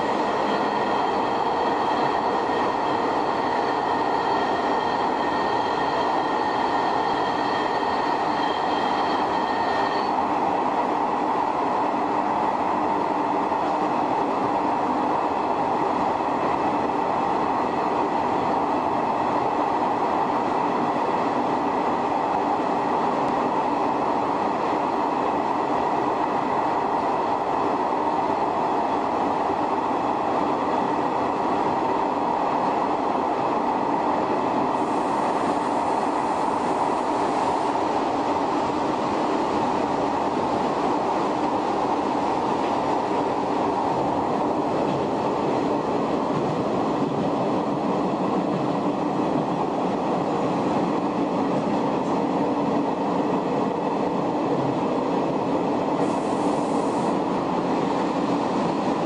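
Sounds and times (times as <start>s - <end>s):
electric train motor and gear whine: 0.0s - 59.0s
wheels rumbling on rail: 0.0s - 59.0s.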